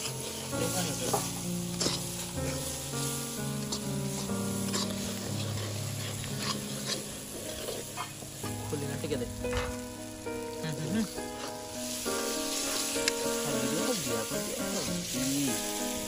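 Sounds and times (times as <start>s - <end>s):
meat sizzling in a pan: 0.0s - 16.0s
metal ladle scraping a pan: 0.0s - 16.0s.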